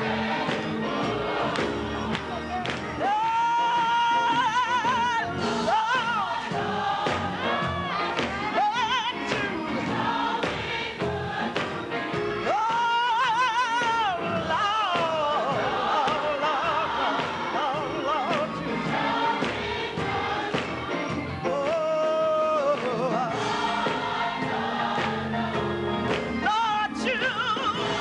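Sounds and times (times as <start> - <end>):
gospel choir singing: 0.0 - 28.0.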